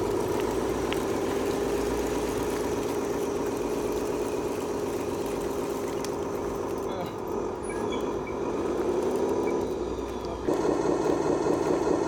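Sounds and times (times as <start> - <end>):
model truck motor drone: 0.0 - 12.0
wheels on gravel: 0.0 - 12.0.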